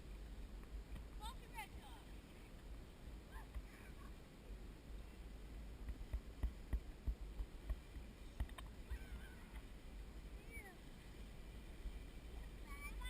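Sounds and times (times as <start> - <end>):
low wind rumble on microphone: 0.0 - 13.0.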